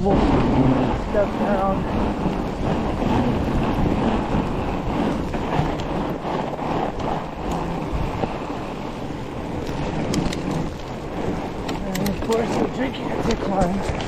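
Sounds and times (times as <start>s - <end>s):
bike tyres rumbling over snow: 0.0s - 14.0s
wind buffeting microphone: 0.0s - 14.0s.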